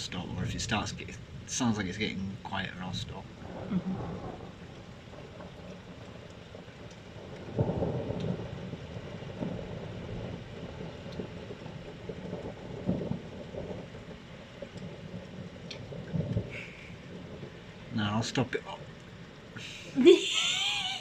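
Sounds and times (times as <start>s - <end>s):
steady rain falling: 0.0s - 21.0s
thunder rumbling: 0.0s - 21.0s.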